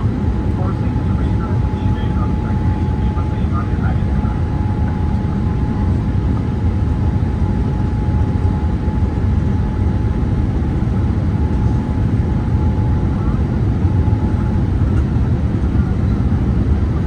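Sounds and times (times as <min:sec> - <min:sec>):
faint steady whine: 0:00.0 - 0:15.1
airflow and engine noise: 0:00.0 - 0:17.0.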